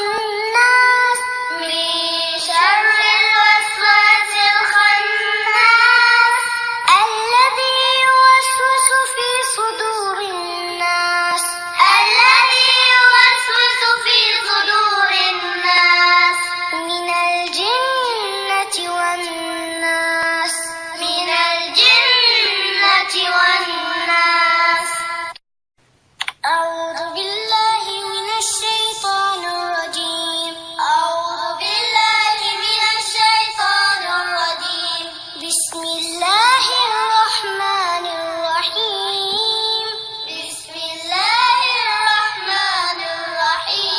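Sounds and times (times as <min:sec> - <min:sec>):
person chanting recitation: 0:00.0 - 0:25.3, 0:26.2 - 0:43.9.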